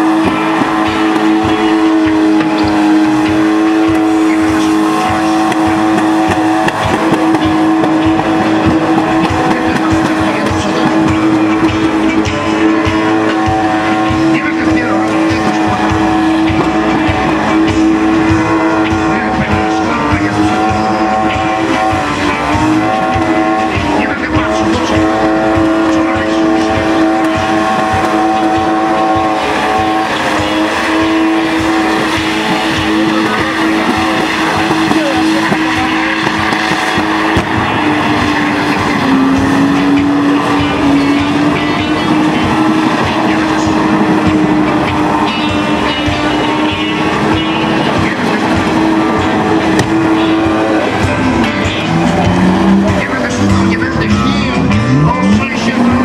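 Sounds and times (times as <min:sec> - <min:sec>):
car engine at high revs: 0:00.0 - 0:56.0
tyres squealing on asphalt: 0:00.0 - 0:56.0.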